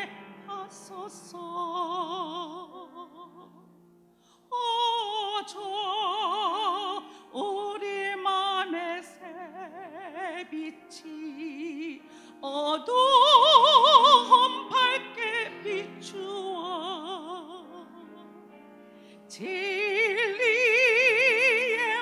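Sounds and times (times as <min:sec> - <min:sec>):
woman singing operatically: 0:00.0 - 0:03.5, 0:04.5 - 0:18.3, 0:19.3 - 0:22.0.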